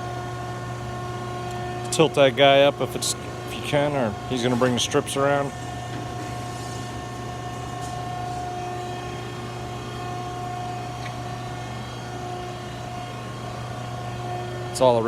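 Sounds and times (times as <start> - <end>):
metal shear motor humming: 0.0 - 15.0.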